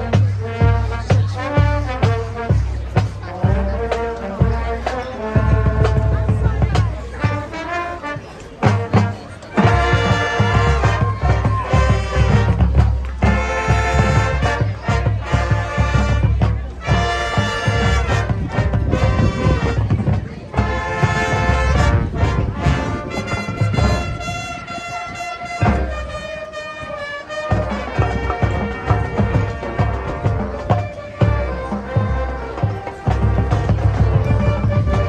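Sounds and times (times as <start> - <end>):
heavy pulsing drums: 0.0 - 26.4, 27.5 - 35.0
marching band playing: 0.0 - 35.0.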